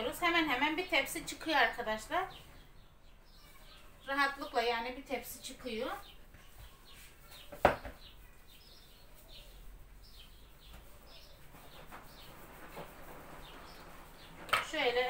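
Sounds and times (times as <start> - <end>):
faint high bird chirps: 2.2 - 14.5.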